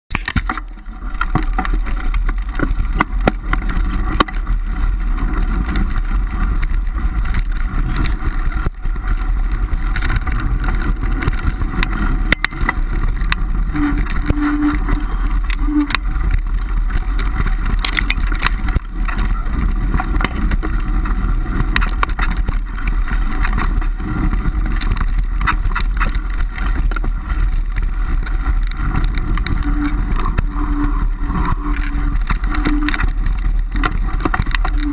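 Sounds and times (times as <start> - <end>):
bicycle tyres rumbling: 0.1 - 34.9
wind buffeting microphone: 0.2 - 34.9.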